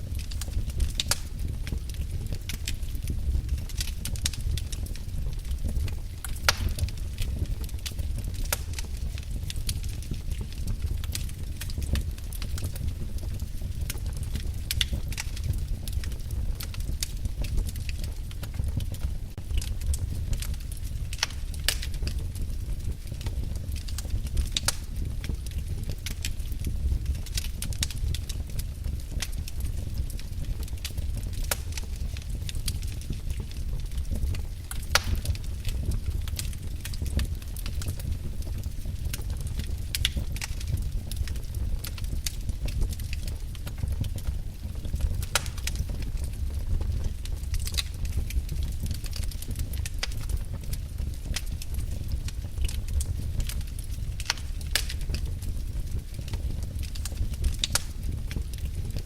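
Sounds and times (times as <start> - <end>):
fire pops and snaps: 0.0 - 59.0
low rumble of flames: 0.0 - 59.0.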